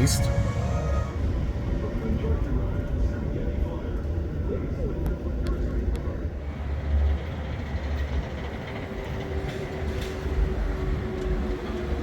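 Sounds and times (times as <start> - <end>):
gondola low rumbling: 0.0 - 12.0.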